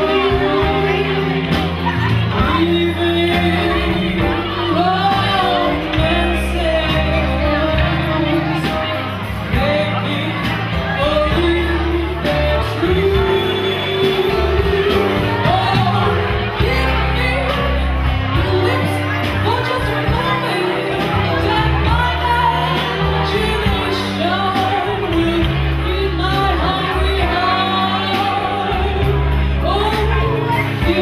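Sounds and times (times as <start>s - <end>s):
drums: 0.0s - 31.0s
electric guitar: 0.0s - 31.0s
woman singing into microphone: 0.0s - 31.0s.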